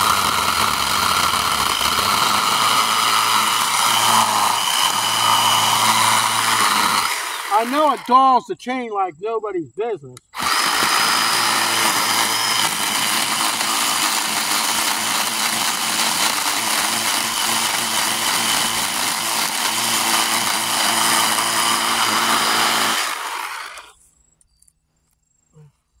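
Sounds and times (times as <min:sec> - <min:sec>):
chainsaw cutting wood: 0:00.0 - 0:08.3, 0:10.2 - 0:23.9.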